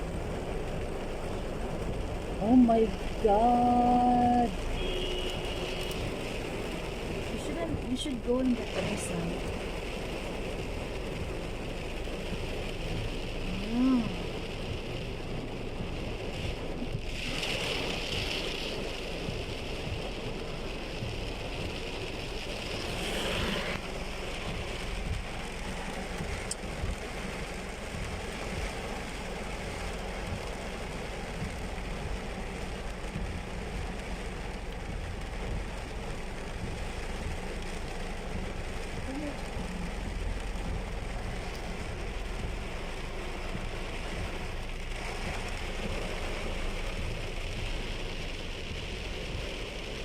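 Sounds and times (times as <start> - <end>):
heavy rain: 0.0 - 50.0
water rushing under car: 0.0 - 50.0.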